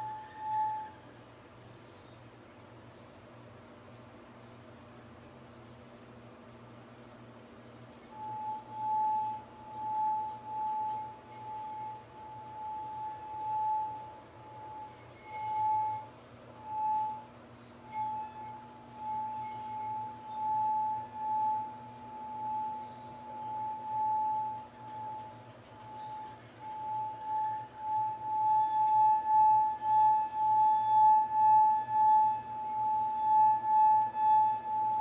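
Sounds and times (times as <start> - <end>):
wine glass singing: 0.0 - 1.2, 7.8 - 35.0.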